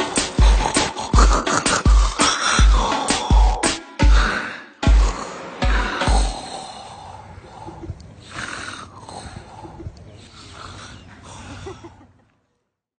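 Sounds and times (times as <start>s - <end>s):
man snoring: 0.0s - 11.1s.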